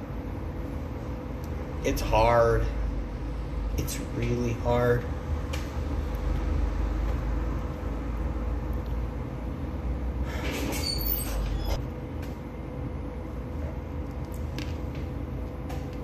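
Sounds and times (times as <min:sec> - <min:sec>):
faint hum: 0:00.0 - 0:16.0
low mechanical rumble: 0:00.0 - 0:16.0.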